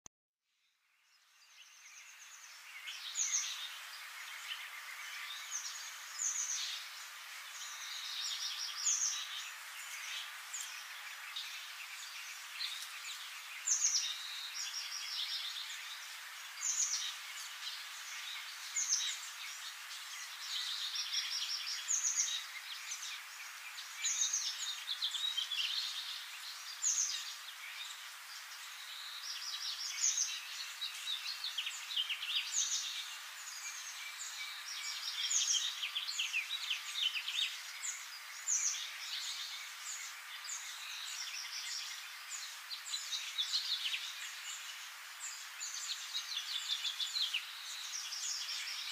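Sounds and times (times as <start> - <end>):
steady hiss: 1.0 - 48.9.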